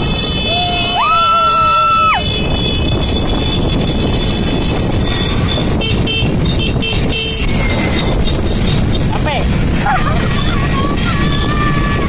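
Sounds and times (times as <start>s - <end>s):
scooter engines: 0.0s - 12.0s
wind noise: 0.0s - 12.0s.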